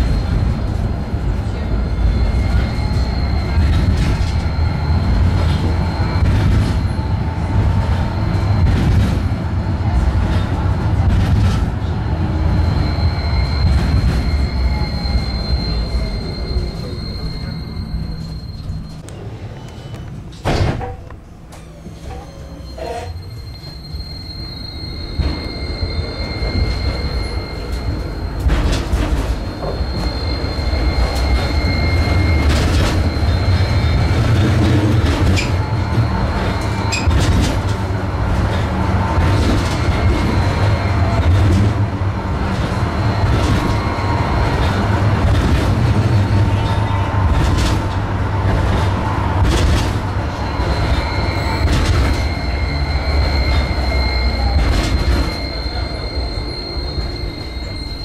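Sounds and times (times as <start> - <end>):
tram rumbling on track: 0.0 - 58.0.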